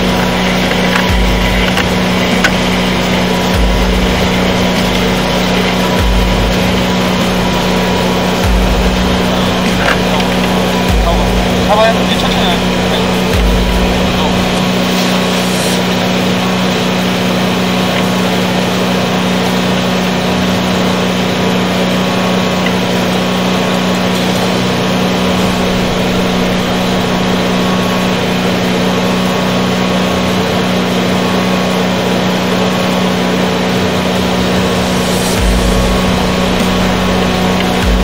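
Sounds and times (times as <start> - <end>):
engine humming steadily: 0.0 - 38.0.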